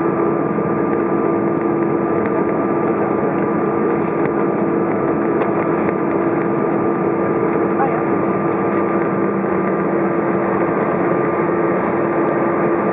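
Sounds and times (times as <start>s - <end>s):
jet engines droning in cabin: 0.0s - 12.9s.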